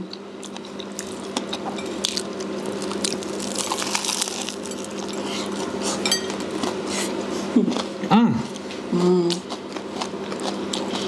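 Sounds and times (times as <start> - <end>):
steady low hum: 0.0 - 11.0
chewing and biting: 0.1 - 11.0.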